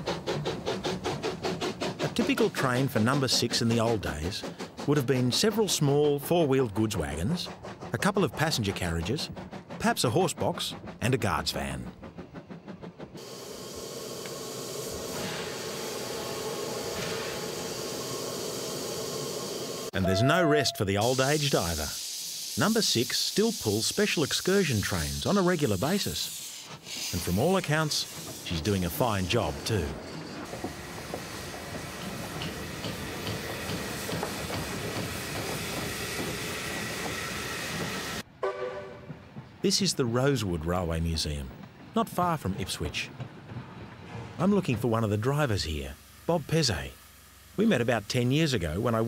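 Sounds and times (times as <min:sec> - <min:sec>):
steam hissing: 0:00.0 - 0:38.3, 0:44.4 - 0:49.0.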